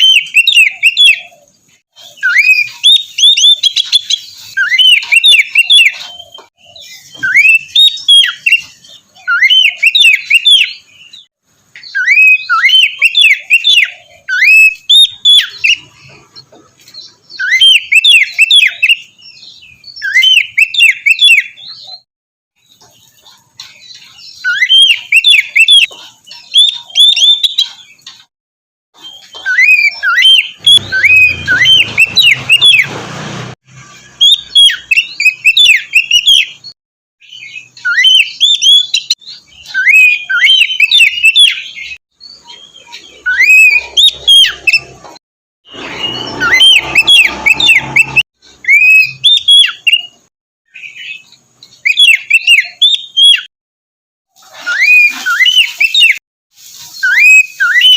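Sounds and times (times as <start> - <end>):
bird singing whistled notes: 0.0 - 16.0, 17.0 - 22.0, 23.7 - 28.0, 29.0 - 32.9, 34.0 - 45.0, 45.7 - 53.5, 54.7 - 56.2, 57.0 - 57.9.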